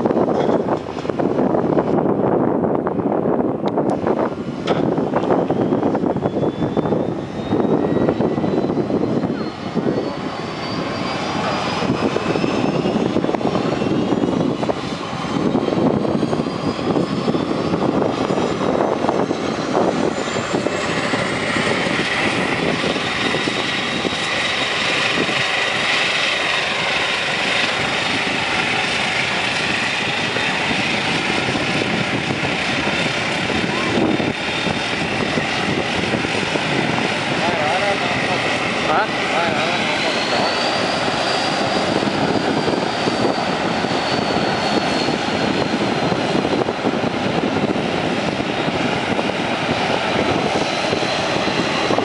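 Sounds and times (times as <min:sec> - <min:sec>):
turboprop engines whining: 0:00.0 - 0:52.0.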